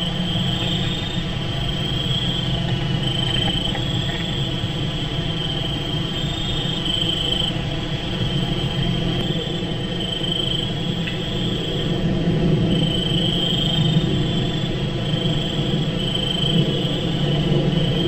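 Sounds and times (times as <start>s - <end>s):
constant low rumble: 0.0s - 18.0s
insects trilling: 0.0s - 18.0s.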